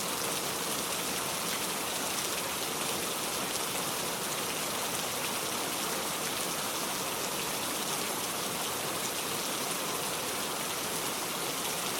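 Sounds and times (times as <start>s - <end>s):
heavy rain on a metal roof: 0.0s - 11.9s.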